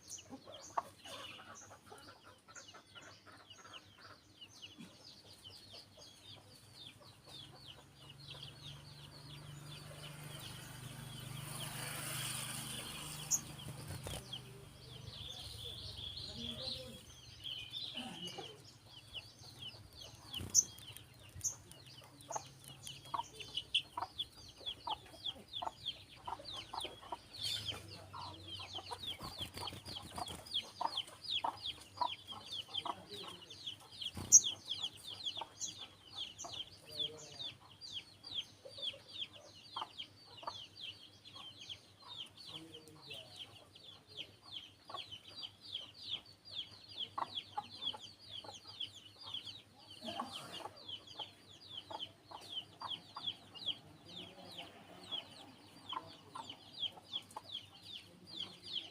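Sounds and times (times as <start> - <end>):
sunbird chirping: 0.0 - 58.9.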